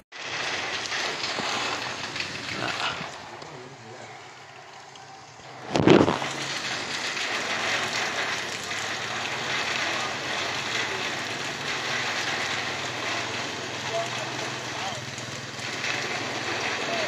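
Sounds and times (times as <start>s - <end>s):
rain hissing: 0.1s - 17.0s.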